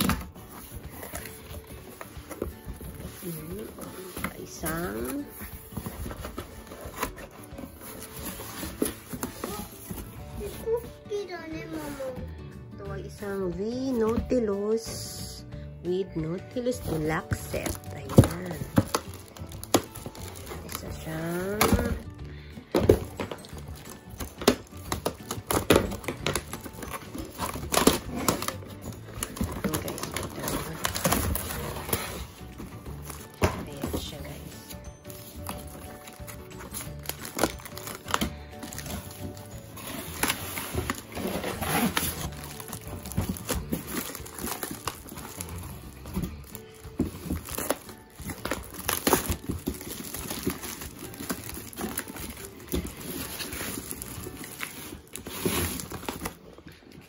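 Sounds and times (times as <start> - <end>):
plastic shrink wrap crinkling: 0.0 - 11.2, 16.7 - 57.0
cardboard rustling: 0.0 - 12.2, 16.7 - 57.0.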